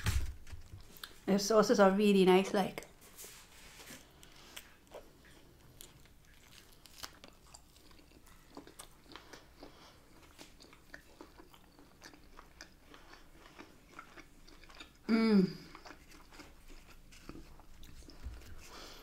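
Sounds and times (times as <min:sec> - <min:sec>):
faint chewing and biting: 0:00.7 - 0:01.2, 0:04.0 - 0:19.0.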